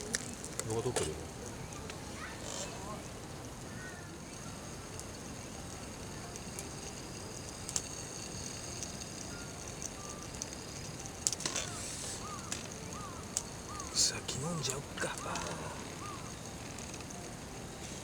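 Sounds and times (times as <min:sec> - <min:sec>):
summer insects droning: 0:00.0 - 0:18.0
wood campfire crackling: 0:00.0 - 0:18.0.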